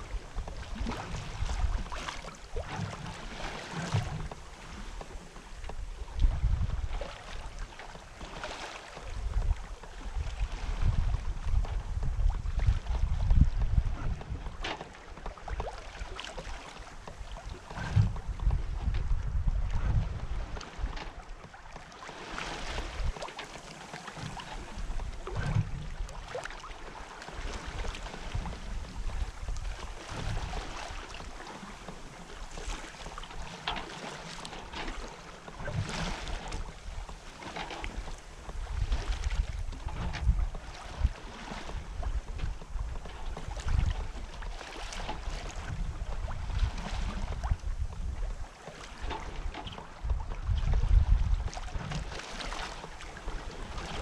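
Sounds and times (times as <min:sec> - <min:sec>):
water rushing along a hull: 0:00.0 - 0:54.0
wind buffeting the microphone: 0:00.0 - 0:54.0.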